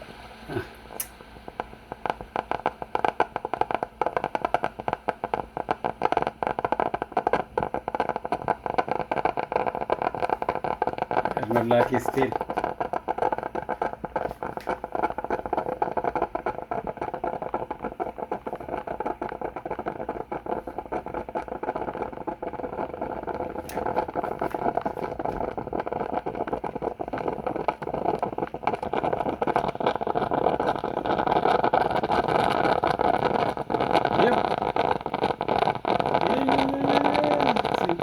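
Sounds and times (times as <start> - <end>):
coffee machine pump running: 0.0 - 38.0.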